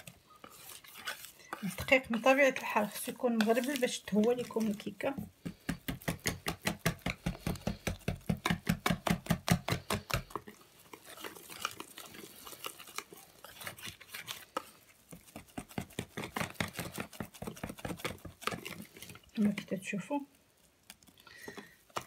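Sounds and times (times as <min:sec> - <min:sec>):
wire whisk beating batter: 0:00.0 - 0:19.9.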